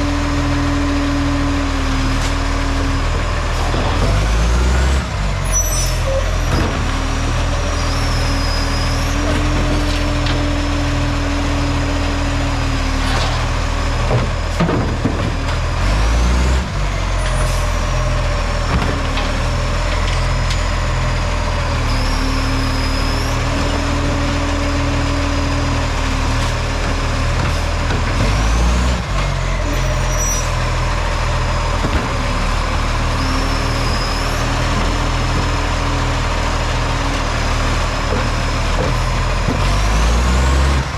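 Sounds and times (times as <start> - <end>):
diesel engine low pulsing: 0.0 - 40.9.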